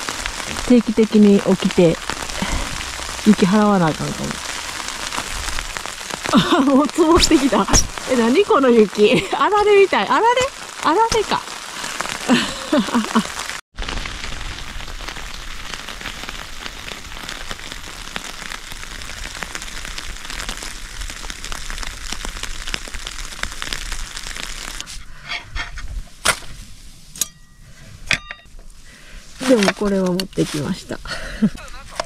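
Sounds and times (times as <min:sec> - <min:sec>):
snow pellets pattering on a tent: 0:00.0 - 0:24.9, 0:29.2 - 0:32.0.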